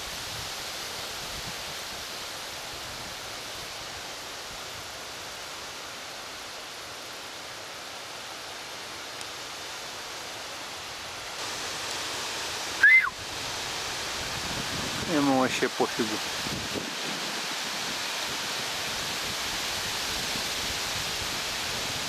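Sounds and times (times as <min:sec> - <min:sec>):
wind rustling foliage: 0:00.0 - 0:22.0.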